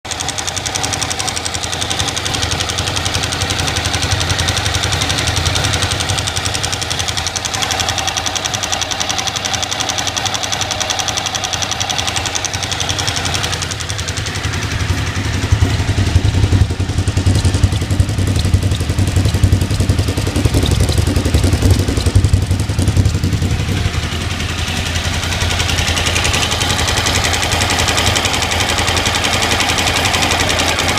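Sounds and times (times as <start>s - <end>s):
engine ticking: 0.0s - 30.9s
motorcycle engine running: 0.0s - 30.9s.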